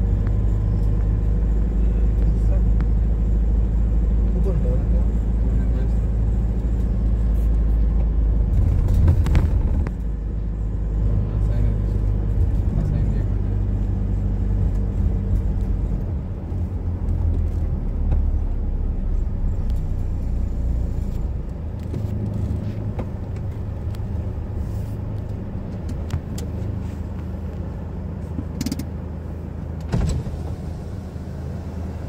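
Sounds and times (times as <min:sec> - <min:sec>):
car engine and road hum: 0:00.0 - 0:32.0.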